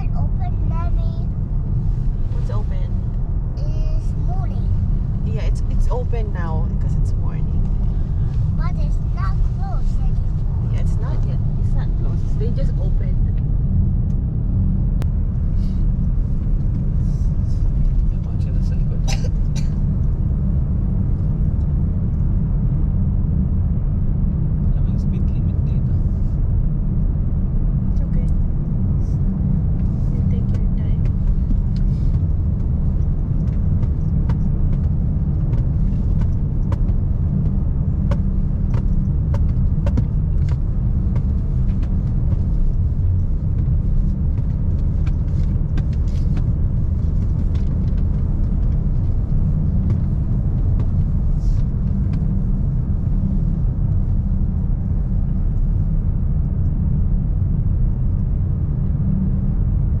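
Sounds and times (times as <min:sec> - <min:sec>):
road and engine rumble: 0:00.0 - 1:00.0.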